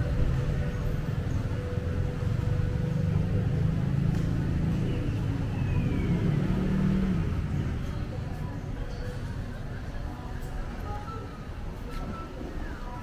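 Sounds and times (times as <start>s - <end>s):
market hall ambience rumble: 0.0s - 13.0s.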